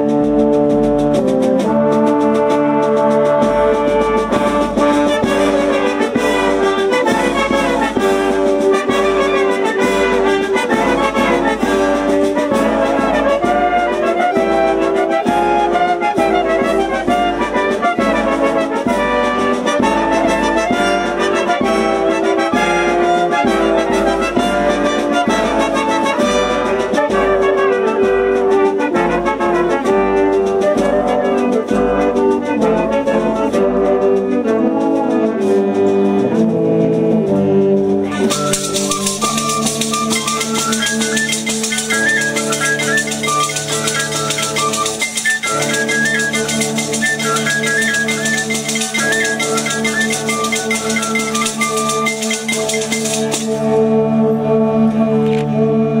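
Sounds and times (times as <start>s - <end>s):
wind band playing folk tune: 0.0s - 56.0s.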